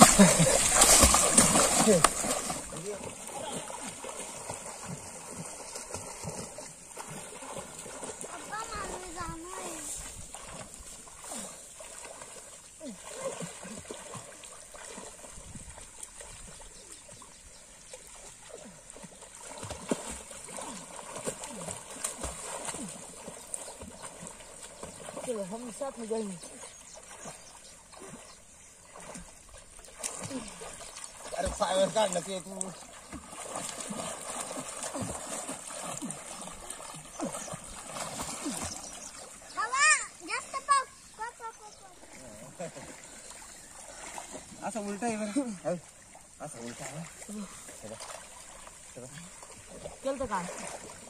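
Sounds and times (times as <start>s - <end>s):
sharp splash: 0.0s - 17.2s, 18.0s - 40.9s, 42.0s - 44.7s, 46.5s - 51.0s
river water splashing: 0.0s - 51.0s.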